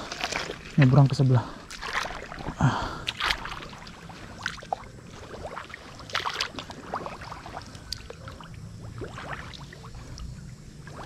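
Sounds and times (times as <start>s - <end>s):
feet splashing in muddy water: 0.0s - 11.0s.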